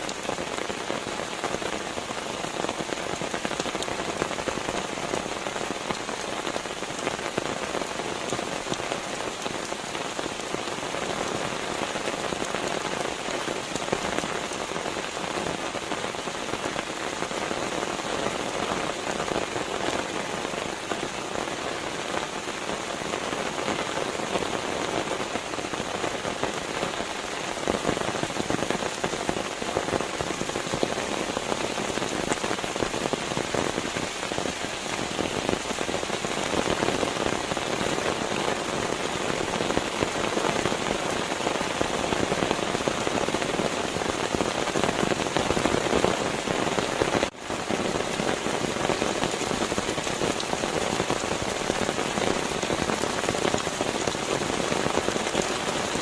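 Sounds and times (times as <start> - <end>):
dense rain pattering: 0.0 - 56.0.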